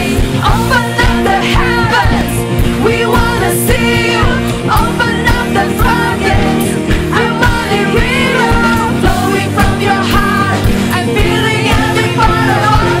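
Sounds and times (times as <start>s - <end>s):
backing vocalists singing: 0.0s - 13.0s
woman singing lead vocals: 0.0s - 13.0s
worship band playing: 0.0s - 13.0s.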